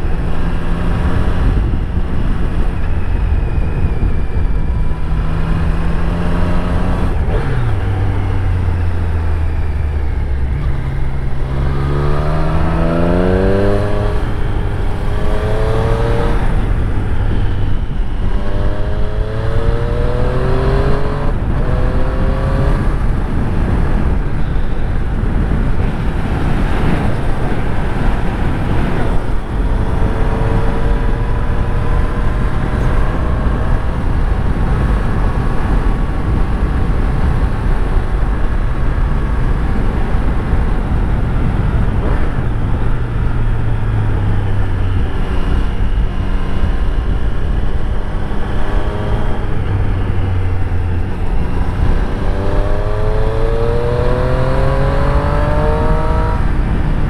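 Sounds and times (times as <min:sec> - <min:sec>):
motorcycle engine accelerating: 0:00.0 - 0:57.0
wind and road rush: 0:00.0 - 0:57.0.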